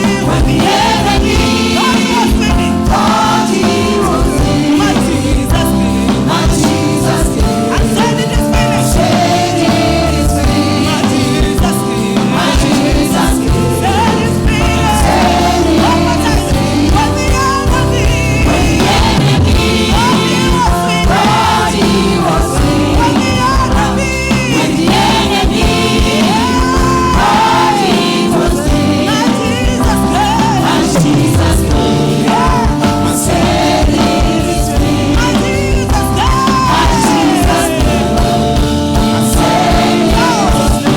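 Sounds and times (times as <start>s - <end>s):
choir singing gospel: 0.0s - 40.9s
instrumental accompaniment with bass: 0.0s - 40.9s.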